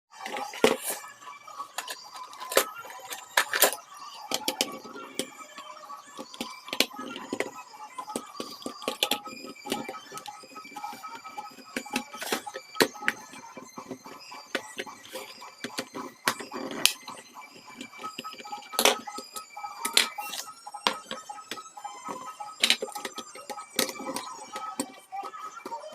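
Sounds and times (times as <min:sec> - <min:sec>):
faint steady tones: 0:00.1 - 0:25.9.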